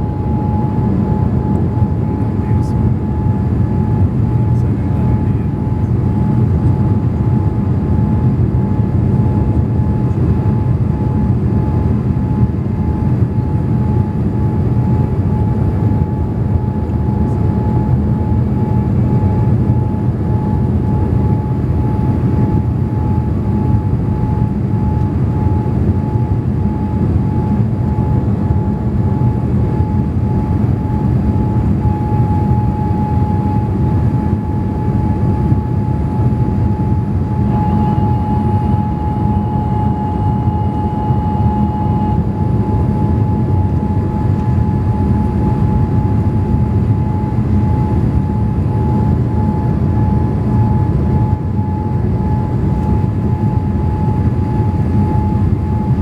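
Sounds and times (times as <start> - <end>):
airplane cabin rumble: 0.0 - 56.0
high steady whine: 0.0 - 56.0.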